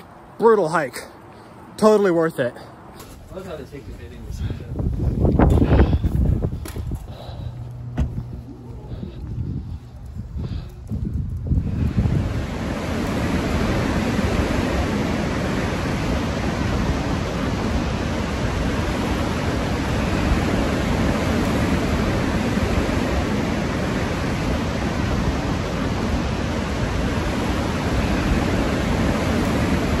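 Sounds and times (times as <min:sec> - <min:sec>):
high wind buffeting microphone: 0:03.1 - 0:30.0.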